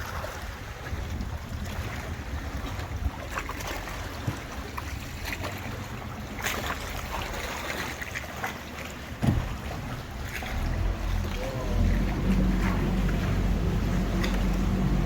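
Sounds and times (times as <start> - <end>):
boat engine rumble: 0.0 - 15.0
water splashing along hull: 0.0 - 15.0.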